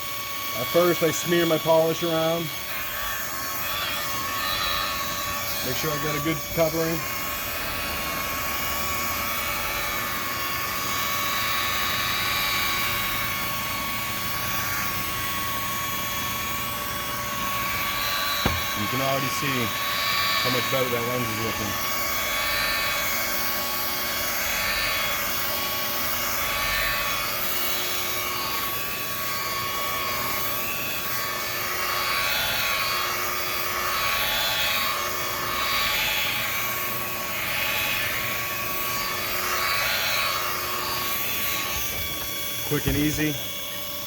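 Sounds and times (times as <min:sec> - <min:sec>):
polishing buffer whine: 0:00.0 - 0:44.0.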